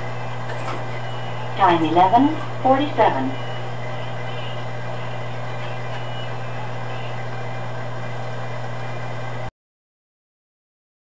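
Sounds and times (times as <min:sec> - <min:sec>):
machine motor humming: 0:00.0 - 0:09.5.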